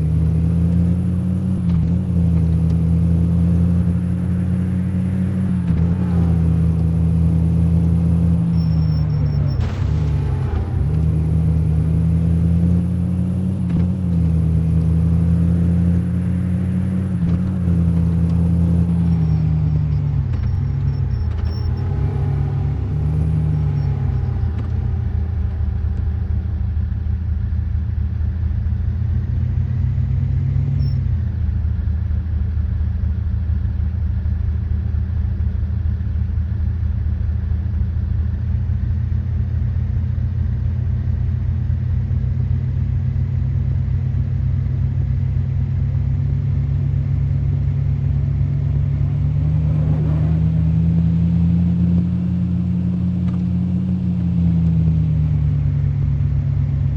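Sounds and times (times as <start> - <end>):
car engine and road rumble: 0.0 - 56.9.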